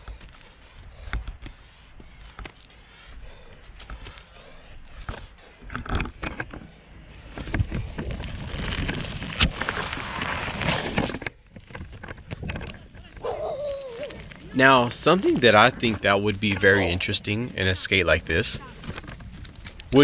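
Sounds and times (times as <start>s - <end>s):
clicks from twigs and grit: 0.0s - 2.8s, 3.5s - 6.6s, 7.4s - 20.0s
skates rolling over dirt trail: 0.0s - 20.0s.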